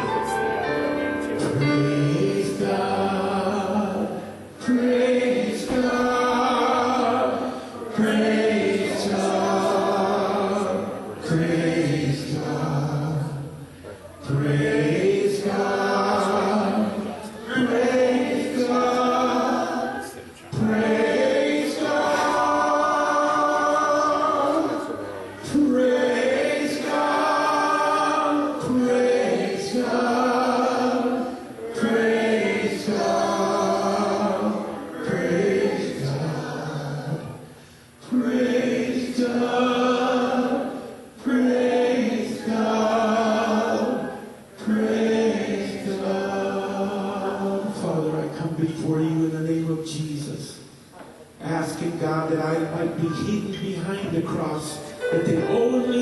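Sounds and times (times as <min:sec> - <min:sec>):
congregation singing a hymn: 0:00.0 - 0:50.6, 0:51.3 - 0:56.0.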